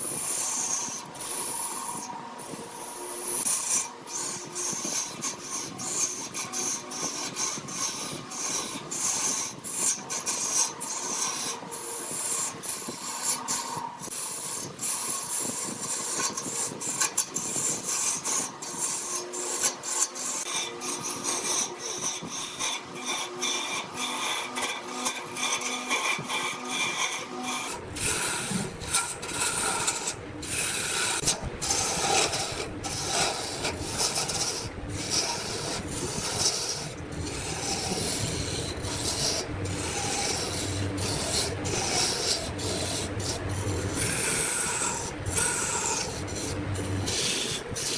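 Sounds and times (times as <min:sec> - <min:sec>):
wood scraping on a spinning lathe: 0:00.0 - 0:47.9.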